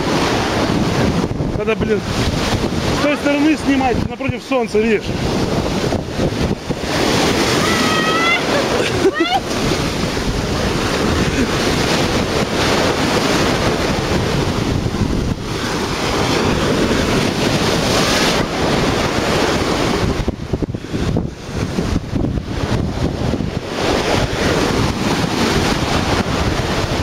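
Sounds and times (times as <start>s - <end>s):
sea surf breaking: 0.0s - 27.0s
wind buffeting microphone: 0.0s - 27.0s.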